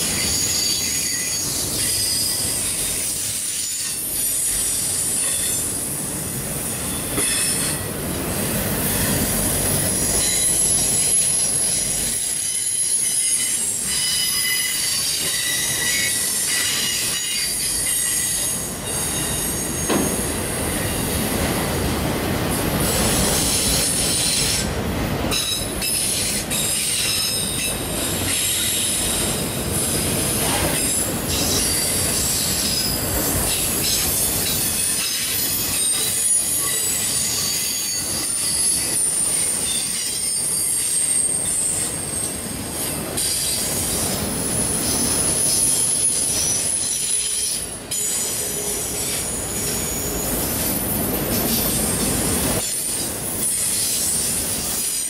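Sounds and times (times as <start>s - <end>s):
train cars rumbling: 0.0s - 55.0s
train wheels squealing on rails: 0.0s - 55.0s.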